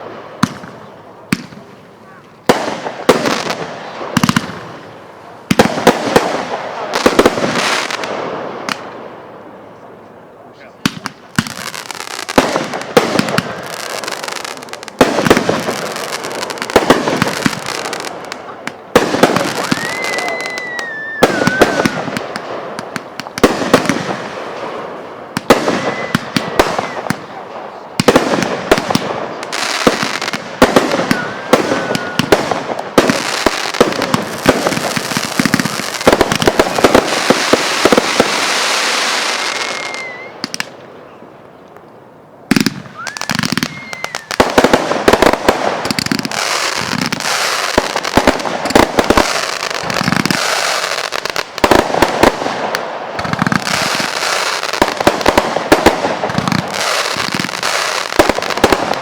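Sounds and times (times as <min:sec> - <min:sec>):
fireworks bangs: 0:00.0 - 0:09.8, 0:10.6 - 0:41.2, 0:42.4 - 0:59.0
fireworks crackling: 0:00.0 - 0:09.8, 0:10.6 - 0:41.5, 0:42.4 - 0:59.0.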